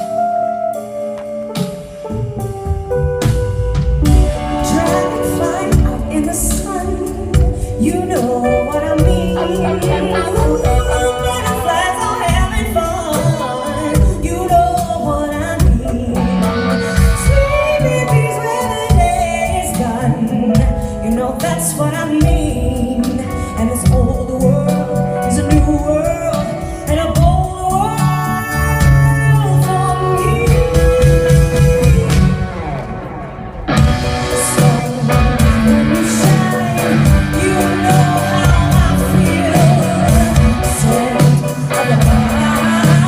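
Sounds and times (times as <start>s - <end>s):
bass and drums: 0.0s - 43.0s
person singing: 4.2s - 33.0s, 33.7s - 43.0s.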